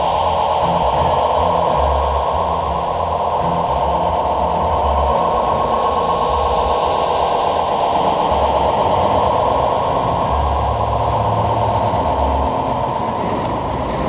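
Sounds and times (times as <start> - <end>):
filtered electronic hiss: 0.0 - 14.0
low electronic hum: 0.0 - 14.0.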